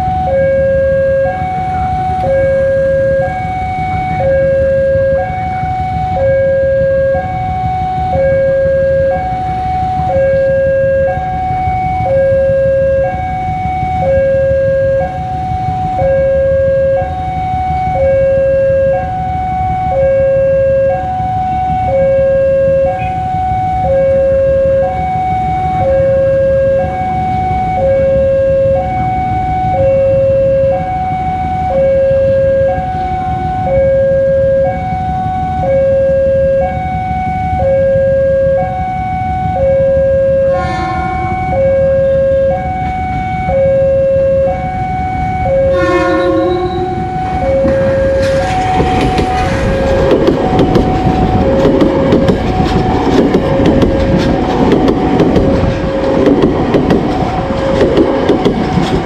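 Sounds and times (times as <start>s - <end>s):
level-crossing two-tone alarm: 0.0s - 58.8s
rumble of waiting traffic: 0.0s - 59.0s.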